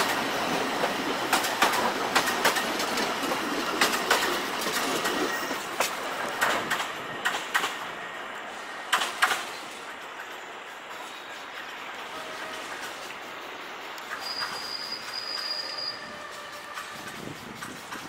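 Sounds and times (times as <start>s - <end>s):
train wheels clacking over rail joints: 0.0s - 8.1s, 8.7s - 18.0s
train rolling rumble: 0.0s - 18.0s.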